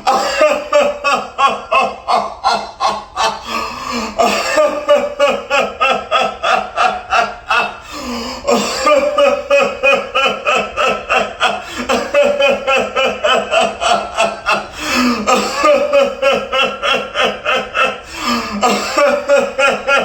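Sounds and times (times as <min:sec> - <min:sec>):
man laughing: 0:00.0 - 0:20.0.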